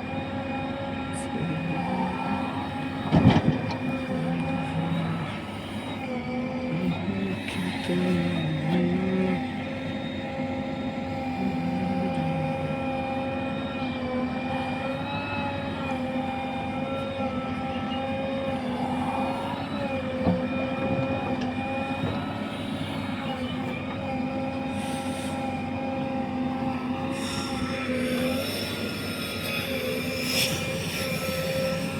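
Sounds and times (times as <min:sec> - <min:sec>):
constant whining tone: 0:00.0 - 0:31.9
diesel engine running: 0:00.0 - 0:31.9.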